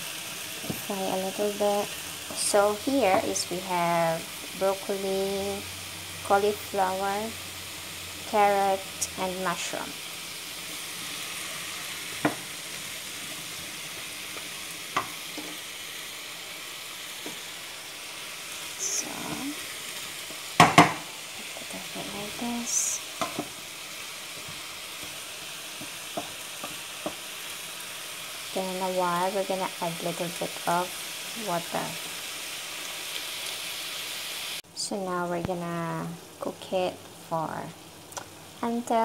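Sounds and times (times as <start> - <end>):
vegetables sizzling in a frying pan: 0.0 - 39.0.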